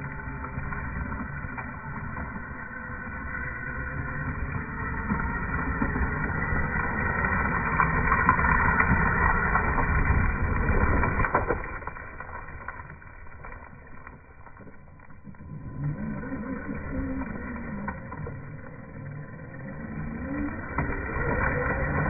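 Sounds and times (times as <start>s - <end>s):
toy truck low rumble: 0.0s - 22.0s.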